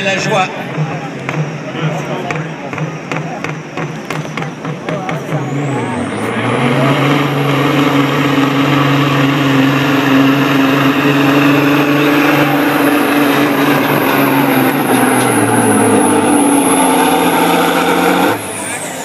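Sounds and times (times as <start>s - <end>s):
diesel truck engine under heavy load: 0.0s - 19.0s.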